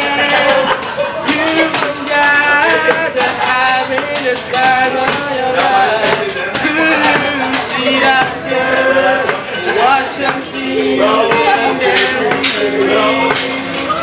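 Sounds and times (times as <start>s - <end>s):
music with steady beat: 0.0s - 14.0s.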